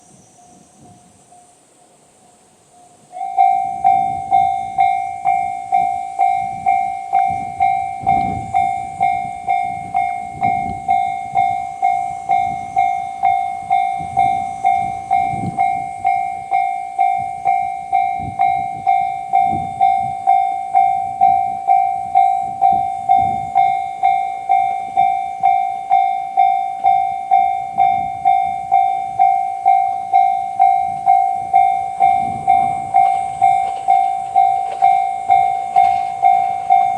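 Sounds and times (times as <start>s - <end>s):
level-crossing warning bell: 0.0s - 36.9s.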